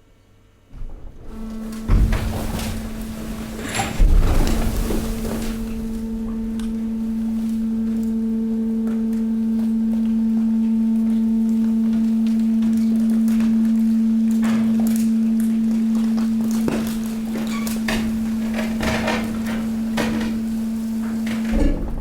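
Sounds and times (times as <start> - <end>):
hydraulic pump humming: 0.8 - 22.0.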